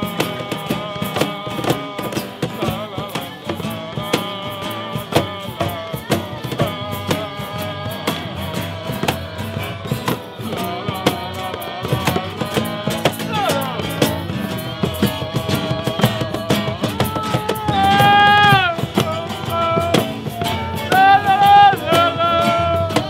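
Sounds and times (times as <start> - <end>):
hand drums beating: 0.0 - 23.0
strummed acoustic guitars: 0.0 - 23.0.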